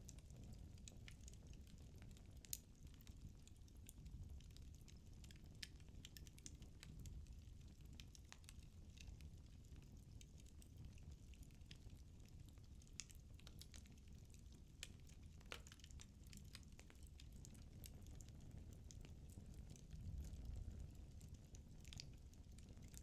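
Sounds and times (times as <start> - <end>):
low steady fire rumble: 0.0 - 23.0
firewood crackling and popping: 0.1 - 23.0.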